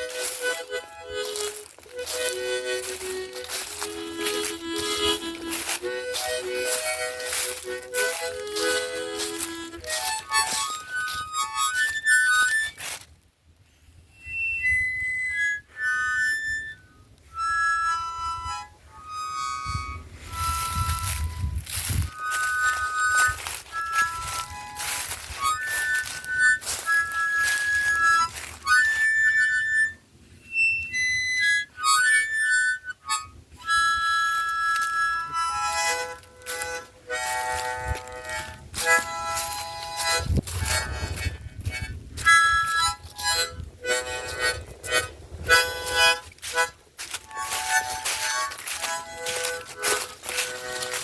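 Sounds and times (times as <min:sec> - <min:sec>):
harmonica playing held notes: 0:00.0 - 0:13.2, 0:14.1 - 0:51.0.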